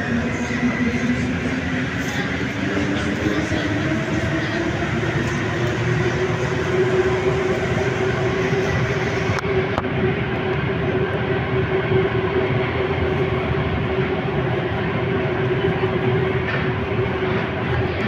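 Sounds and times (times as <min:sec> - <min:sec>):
train rolling rumble: 0:00.0 - 0:18.0.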